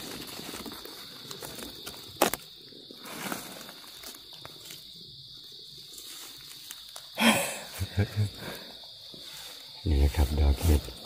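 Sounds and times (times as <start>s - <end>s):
crackles: 0.0s - 11.0s
insects buzzing: 0.0s - 11.0s.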